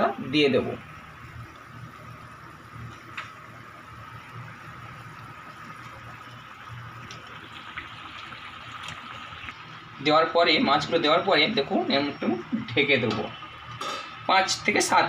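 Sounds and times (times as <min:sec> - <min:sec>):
gravy simmering and bubbling: 0:00.0 - 0:15.0.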